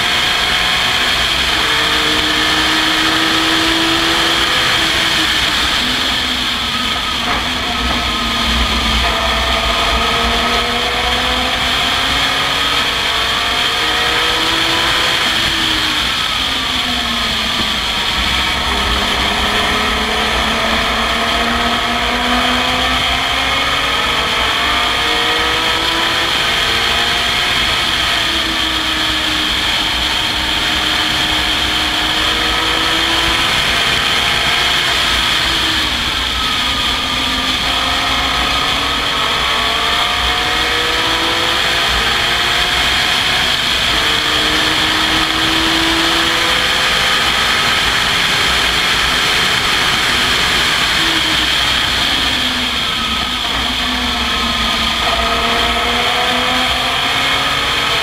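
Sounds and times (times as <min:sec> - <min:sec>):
race car engine revving through gears: 0:00.0 - 0:58.0.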